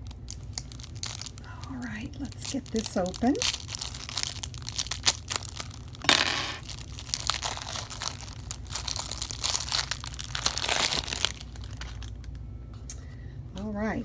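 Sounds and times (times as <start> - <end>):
cellophane wrap crinkling and tearing: 0.0 - 12.4.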